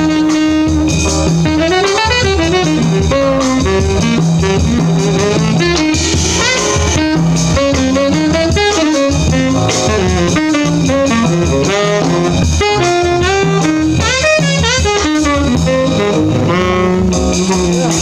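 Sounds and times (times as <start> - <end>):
low bass notes: 0.0 - 18.0
saxophone playing jazz: 0.0 - 18.0.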